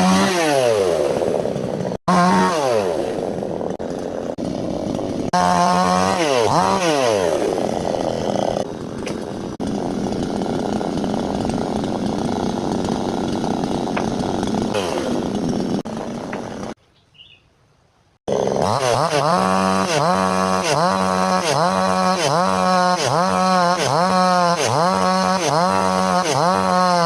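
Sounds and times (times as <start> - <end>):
chainsaw revving and cutting: 0.0 - 16.8, 18.3 - 27.0.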